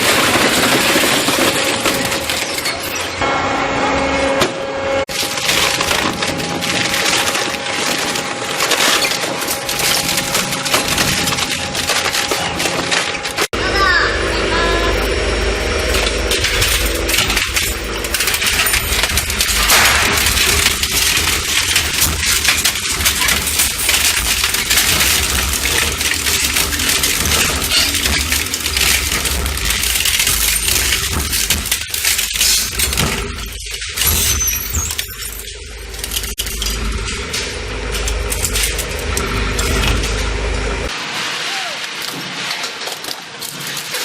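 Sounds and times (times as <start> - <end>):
metal pieces clattering: 0.0 - 3.2, 5.1 - 13.5, 15.8 - 44.0
low machine hum: 0.0 - 41.0.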